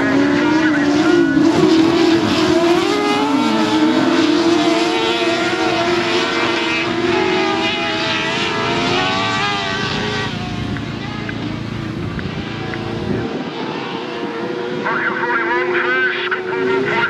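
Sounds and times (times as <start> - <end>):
racing buggy engines revving: 0.0 - 17.0.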